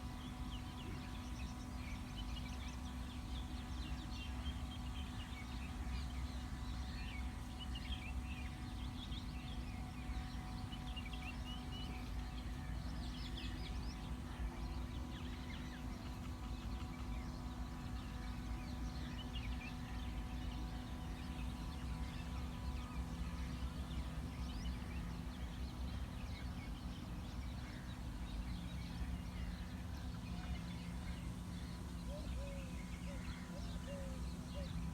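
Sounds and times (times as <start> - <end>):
constant hum: 0.0 - 34.9.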